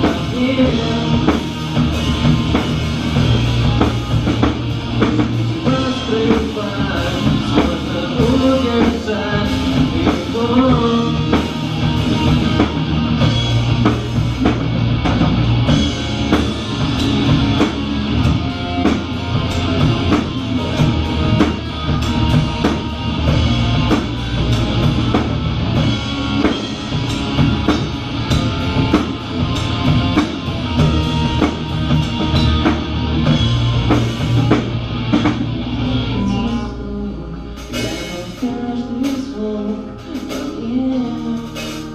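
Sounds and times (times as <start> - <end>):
drum kit beat: 0.0 - 36.8, 37.4 - 41.9
bass guitar: 0.0 - 41.9
electric guitar: 0.0 - 41.9.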